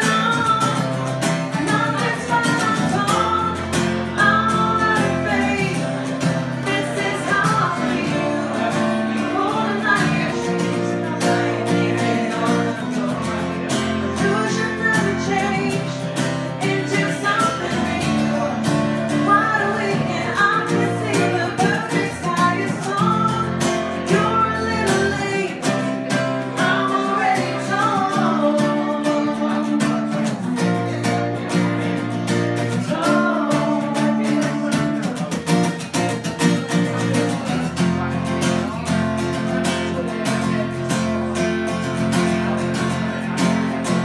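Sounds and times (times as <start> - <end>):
woman singing: 0.0 - 38.9
acoustic guitar strumming: 0.0 - 44.0.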